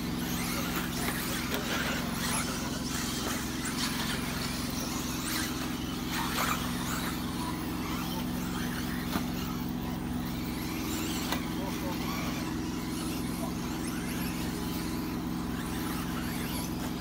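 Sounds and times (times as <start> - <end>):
constant low hum: 0.0 - 17.0
model cars racing: 0.0 - 17.0.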